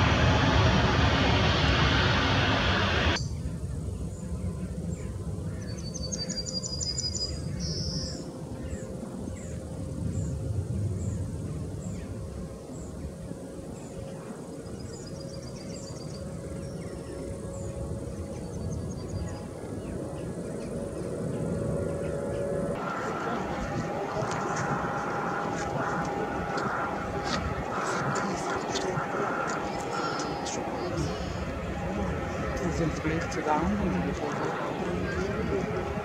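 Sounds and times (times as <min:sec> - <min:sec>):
distant jet engines rumbling: 0:00.0 - 0:36.0
songbirds chirping: 0:03.1 - 0:36.0.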